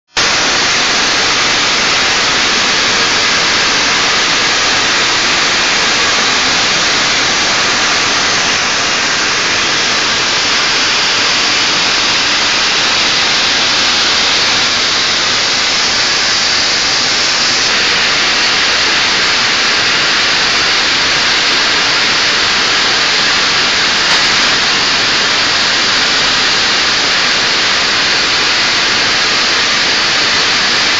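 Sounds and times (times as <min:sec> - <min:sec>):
loud steady hiss: 0:00.0 - 0:30.9.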